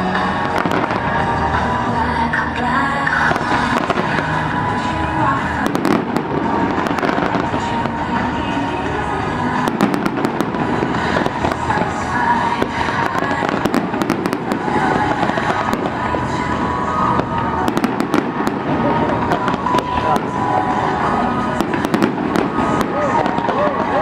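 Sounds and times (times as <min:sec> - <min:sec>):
fireworks cracking and crackling: 0:00.0 - 0:24.0
voices of onlookers: 0:00.0 - 0:24.0.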